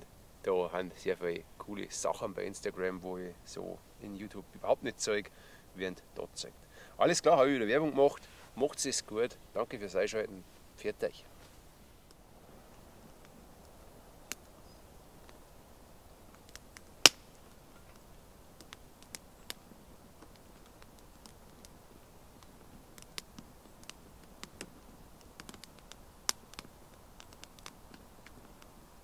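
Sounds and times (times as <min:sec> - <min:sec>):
faint hiss: 0:00.0 - 0:29.0
wood fire crackling and popping: 0:00.0 - 0:29.0.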